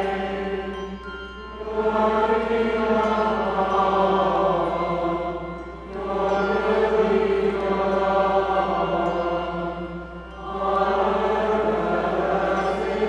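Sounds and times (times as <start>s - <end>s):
voices chanting liturgy: 0.0s - 13.0s.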